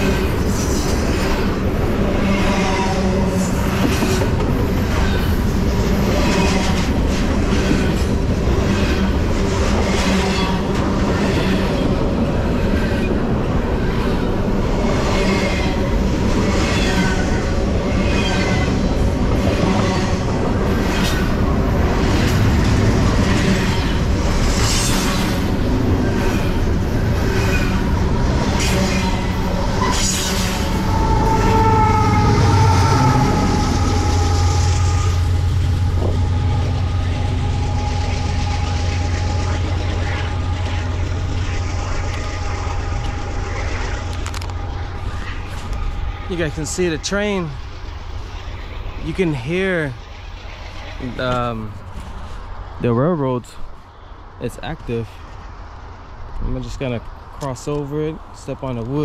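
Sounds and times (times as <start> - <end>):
train cars clacking: 0.0 - 59.0
train wheels rumbling on rails: 0.0 - 59.0.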